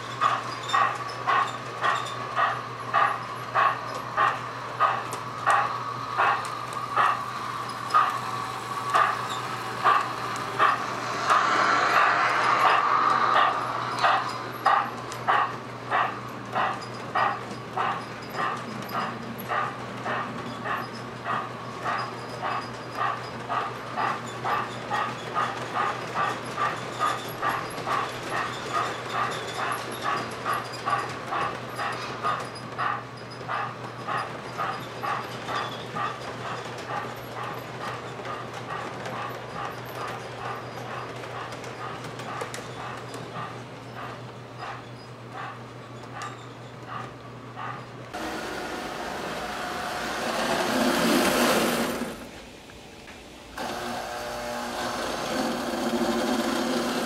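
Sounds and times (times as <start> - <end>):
model train wheels clacking: 0.0 - 54.4
steady low hum: 0.2 - 48.2.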